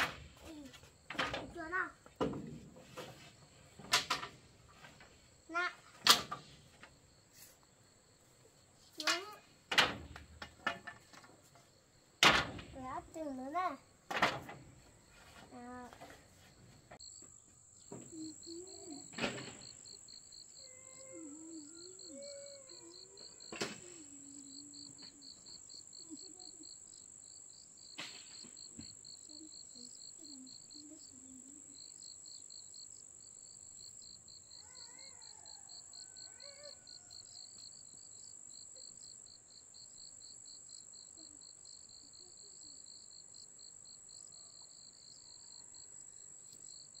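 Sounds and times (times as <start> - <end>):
insects droning: 0.0 - 47.0
cricket chirping: 3.8 - 12.7, 17.0 - 47.0.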